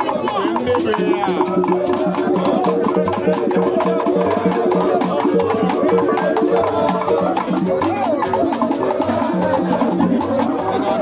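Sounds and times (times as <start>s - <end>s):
rhythmic drum music: 0.0s - 11.0s
voices: 0.0s - 11.0s.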